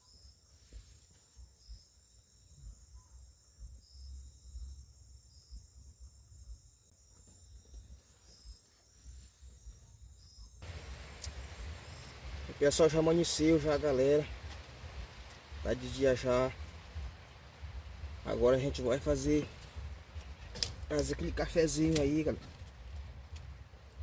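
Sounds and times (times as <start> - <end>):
forest ambience: 0.0 - 24.0
insects trilling: 0.0 - 24.0
faint low rumble: 0.5 - 24.0.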